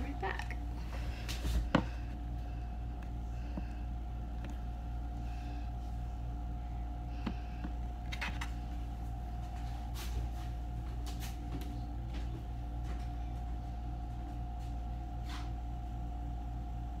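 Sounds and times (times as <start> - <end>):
faint whine: 0.0 - 17.0
low electrical hum: 0.0 - 17.0.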